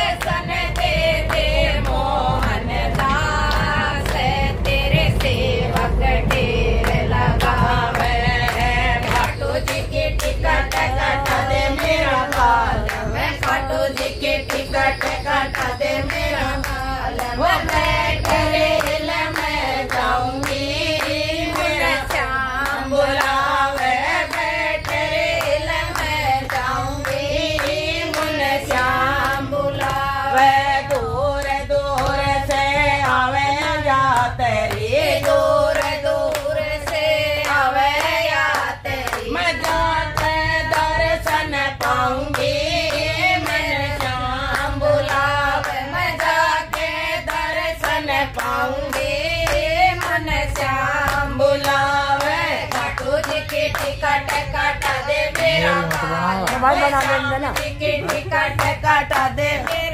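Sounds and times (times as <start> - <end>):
hand clapping: 0.0 - 59.9
people singing together: 0.0 - 59.9.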